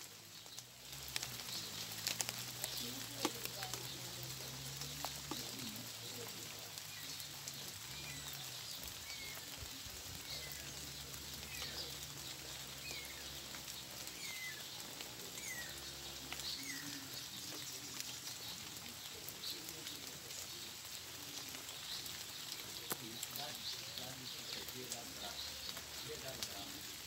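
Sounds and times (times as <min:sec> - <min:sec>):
rain pattering on leaves: 0:00.0 - 0:27.0.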